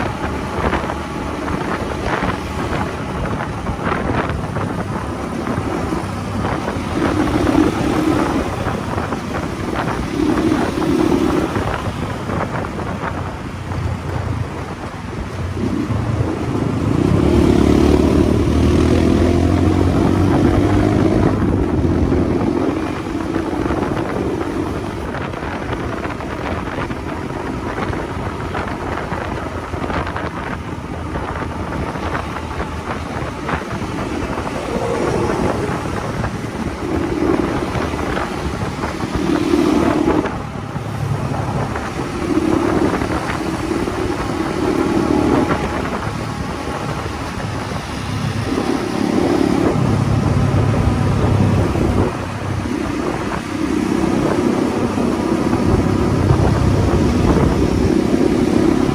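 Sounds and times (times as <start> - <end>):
motorcycle engine accelerating: 0.0 - 58.9
road and wind noise: 0.0 - 58.9.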